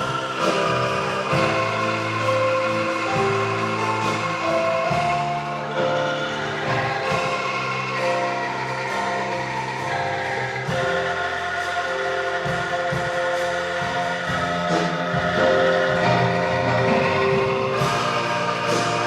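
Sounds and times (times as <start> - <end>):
shaken bamboo tubes chords: 0.0 - 19.0.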